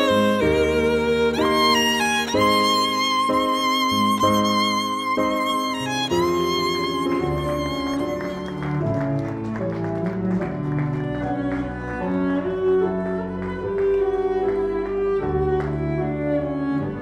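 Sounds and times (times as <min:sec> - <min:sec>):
cello and violin slow music: 0:00.0 - 0:17.0.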